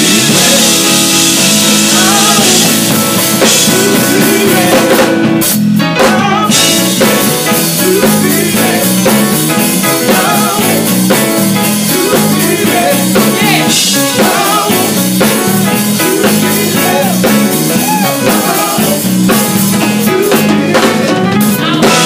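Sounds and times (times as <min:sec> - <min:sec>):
bass: 0:00.0 - 0:22.0
drum kit beat: 0:00.0 - 0:22.0
keyboards: 0:00.0 - 0:22.0.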